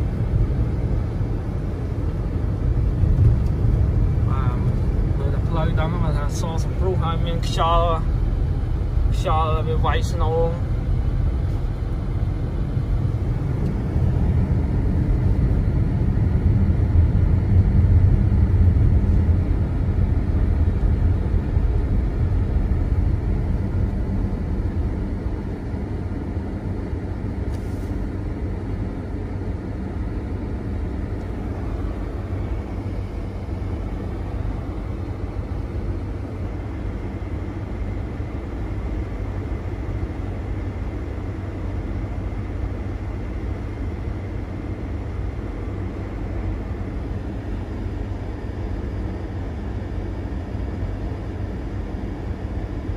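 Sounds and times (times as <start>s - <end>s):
tyres and engine rumble: 0.0s - 52.9s.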